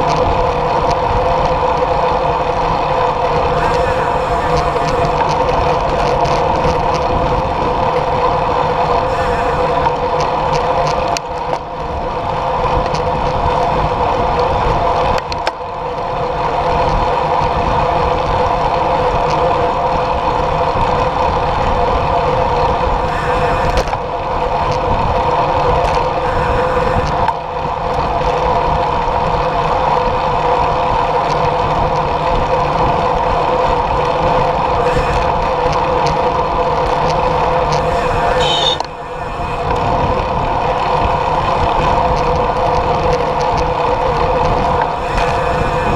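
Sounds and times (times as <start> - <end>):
wind rush: 0.0 - 11.2, 16.4 - 45.9
bike tyre noise on asphalt: 0.0 - 45.9.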